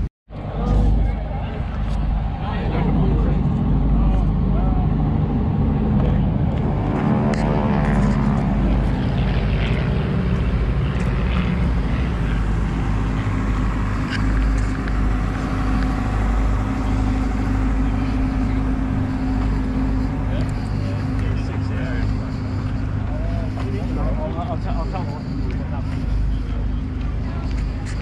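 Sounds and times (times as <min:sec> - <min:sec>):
steady drone of engines: 0:00.0 - 0:28.0
passing whine dropping in pitch: 0:00.3 - 0:28.0.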